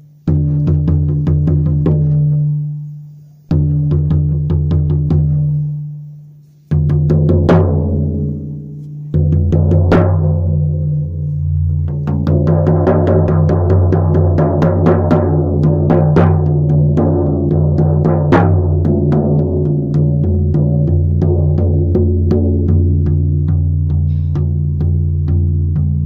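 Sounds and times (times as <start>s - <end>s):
drumming: 0.0s - 2.6s, 6.7s - 26.0s.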